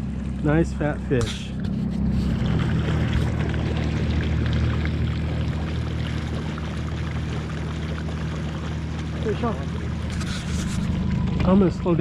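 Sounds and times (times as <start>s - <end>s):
outboard motor humming: 0.0s - 12.0s
water splashing along hull: 0.0s - 12.0s.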